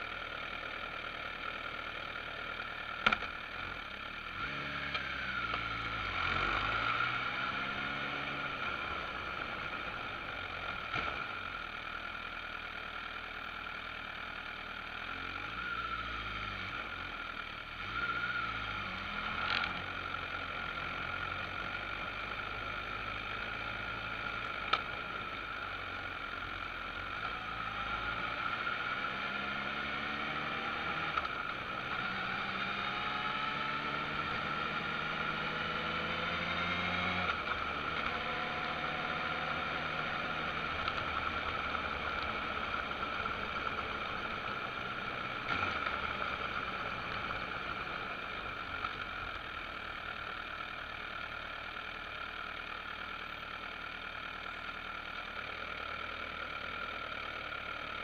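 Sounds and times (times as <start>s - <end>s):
motorcycle engine accelerating: 0.0s - 12.0s, 13.7s - 58.0s
road noise: 0.0s - 58.0s.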